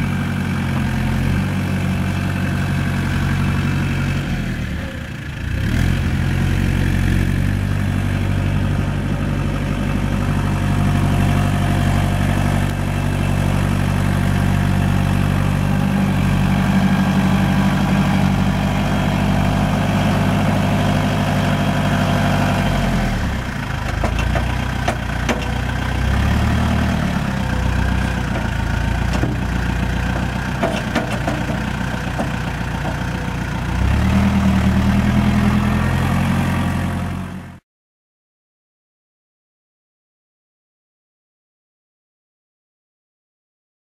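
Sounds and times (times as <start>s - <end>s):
tractor engine running: 0.0s - 37.6s.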